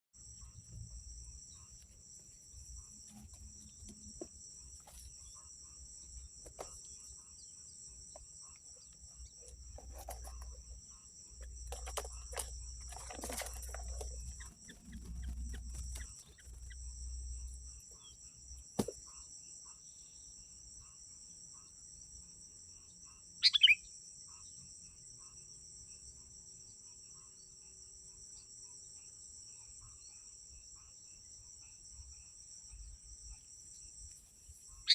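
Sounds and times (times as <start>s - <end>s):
insects buzzing: 0.2s - 34.9s.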